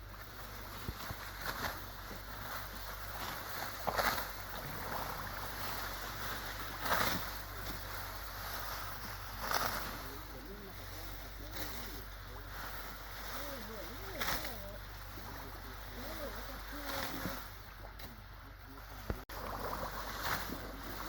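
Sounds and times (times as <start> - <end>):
rice stalks swishing and rustling: 0.0 - 21.0
steady background hiss: 0.0 - 21.0.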